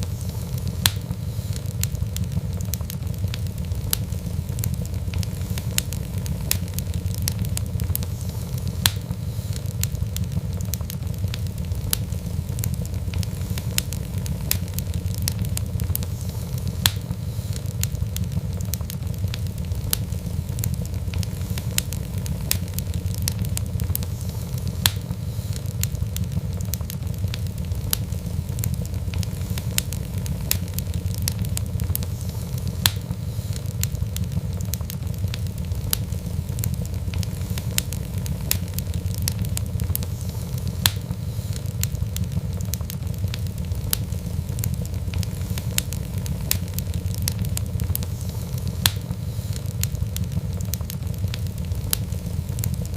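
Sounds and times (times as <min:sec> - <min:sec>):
fire popping: 0:00.0 - 0:52.9
fireplace fire crackling: 0:00.0 - 0:52.9.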